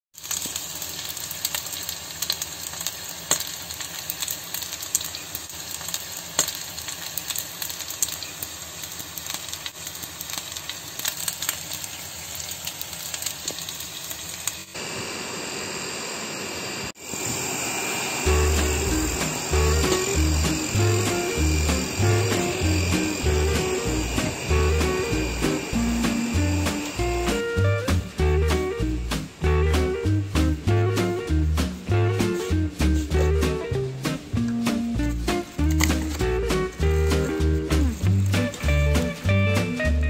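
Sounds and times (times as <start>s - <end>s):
dumplings sizzling on a griddle: 0.1s - 40.0s.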